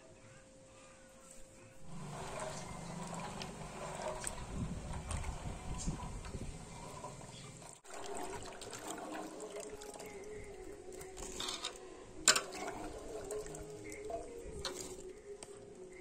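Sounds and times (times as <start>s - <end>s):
water trickling and splashing: 1.8s - 15.6s.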